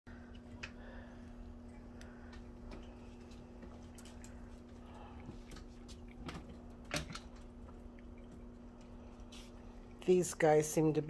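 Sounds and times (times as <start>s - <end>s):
steady low hum: 0.1s - 11.0s.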